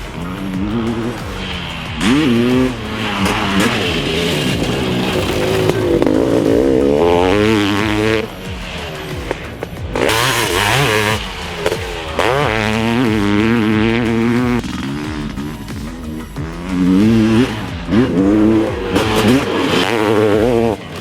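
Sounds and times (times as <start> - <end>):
background music: 0.0 - 21.0
two-stroke engine revving: 0.0 - 21.0.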